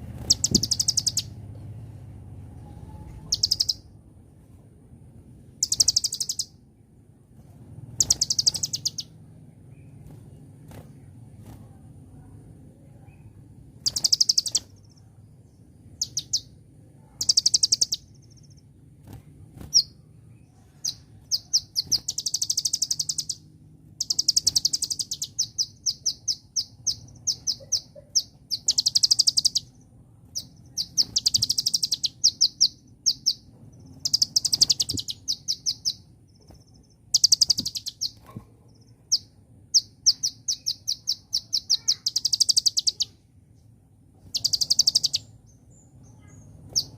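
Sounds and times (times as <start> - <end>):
bird singing trills and chips: 0.0 - 1.4, 2.6 - 3.9, 5.6 - 6.6, 7.9 - 11.6, 13.0 - 46.9
faint low hum: 0.0 - 46.9.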